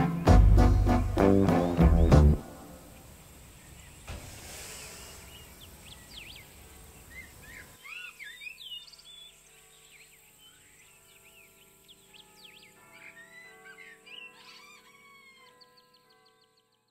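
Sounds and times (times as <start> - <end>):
small birds chirping: 1.5 - 16.9.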